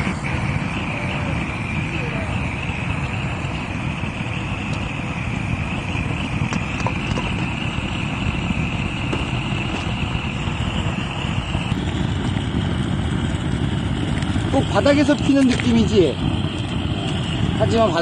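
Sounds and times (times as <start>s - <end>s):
gas torch flame blowing: 0.0s - 18.0s.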